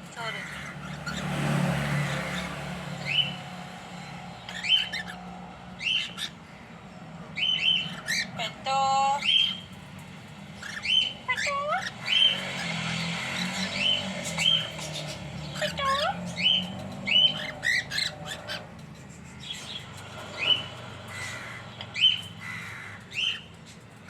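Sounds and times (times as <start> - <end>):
cockatiels chirping: 0.2 - 1.3, 1.9 - 6.7, 7.3 - 24.0.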